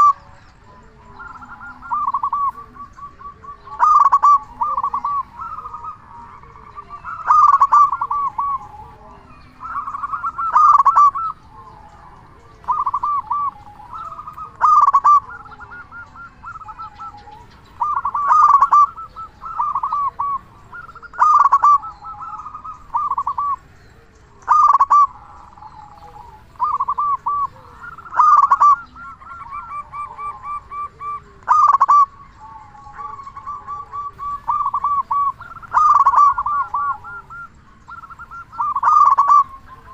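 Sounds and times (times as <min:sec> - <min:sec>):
dove cooing loudly: 0:00.0 - 0:39.9.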